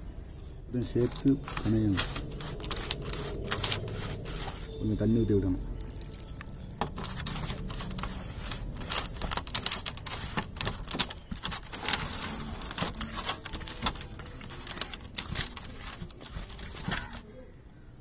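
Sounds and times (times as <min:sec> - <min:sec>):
wet squishes of kneading: 0:00.5 - 0:17.3.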